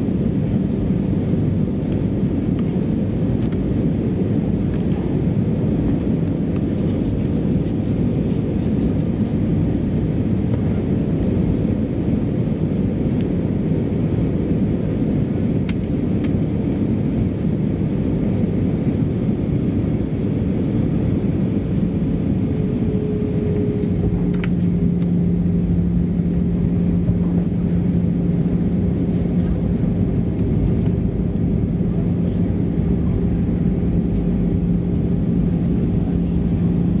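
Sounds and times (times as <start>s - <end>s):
air rushing along fuselage: 0.0s - 37.0s
airplane cabin engine drone: 0.0s - 37.0s
steady low hum: 0.0s - 37.0s.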